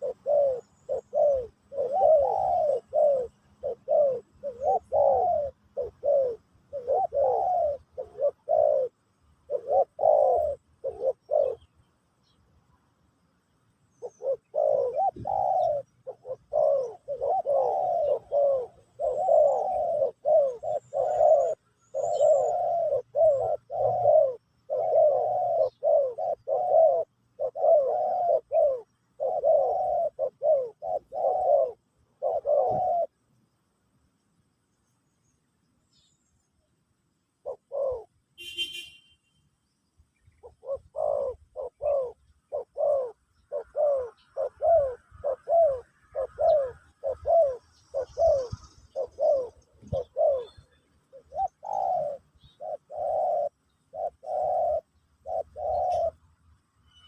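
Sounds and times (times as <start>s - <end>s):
doves cooing: 0.0s - 12.9s, 13.7s - 33.6s, 37.2s - 38.9s, 40.2s - 56.4s.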